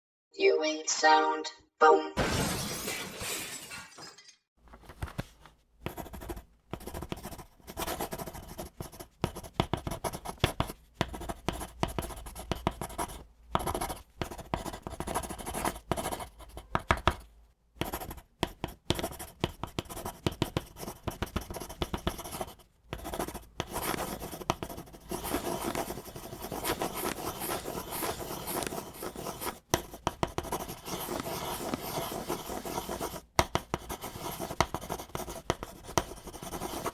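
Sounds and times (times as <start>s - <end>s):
pencil writing on paper: 5.0s - 36.9s.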